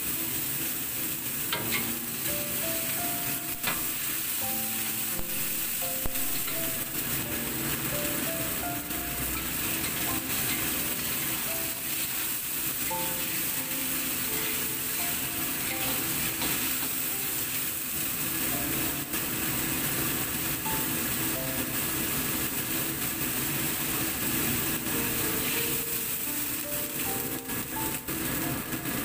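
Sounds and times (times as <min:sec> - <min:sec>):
food sizzling in a wok: 0:00.0 - 0:29.0.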